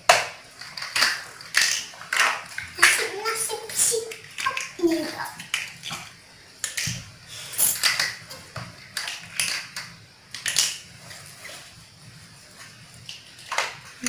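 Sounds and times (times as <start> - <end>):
plastic blocks clattering on tile: 0.0 - 11.8, 12.5 - 14.0.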